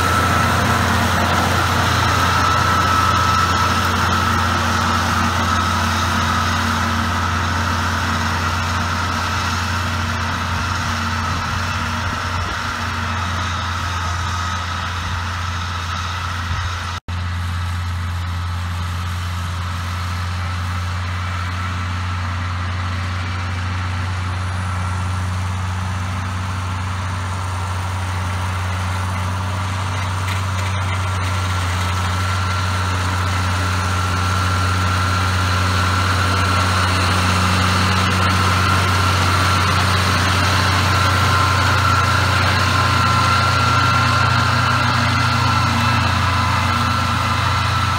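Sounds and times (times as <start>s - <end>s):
mower high whine: 0.0s - 47.9s
tractor diesel engine under load: 0.0s - 47.9s.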